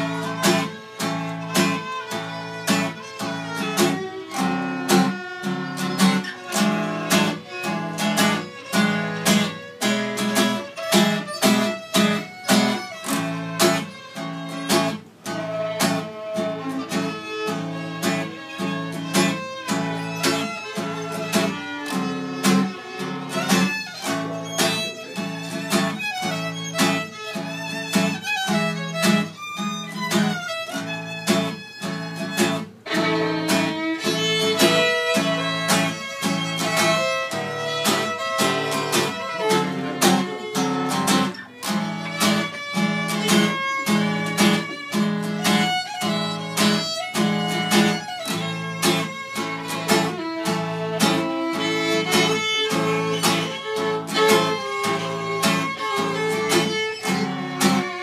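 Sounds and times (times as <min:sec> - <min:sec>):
acoustic guitar strumming: 0:00.0 - 0:58.0
two fiddles playing a tune: 0:00.0 - 0:58.0.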